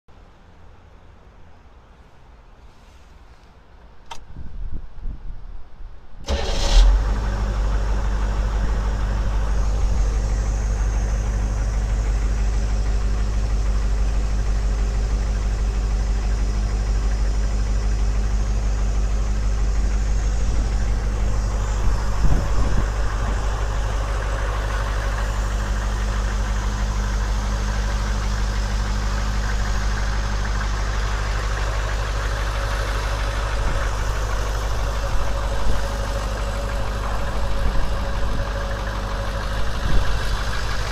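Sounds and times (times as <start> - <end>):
diesel engine idling: 6.3 - 40.9.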